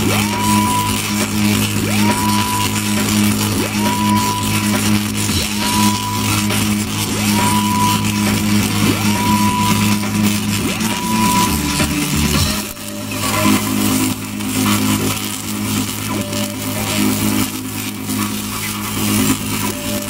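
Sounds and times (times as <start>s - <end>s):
low drone music: 0.0s - 20.0s.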